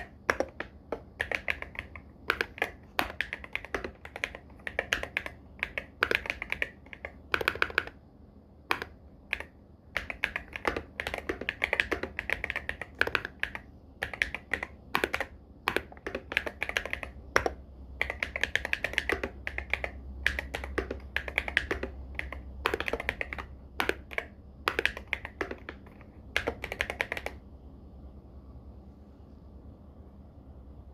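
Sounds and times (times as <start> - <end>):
mechanical keyboard typing: 0.0 - 8.0, 8.7 - 27.4.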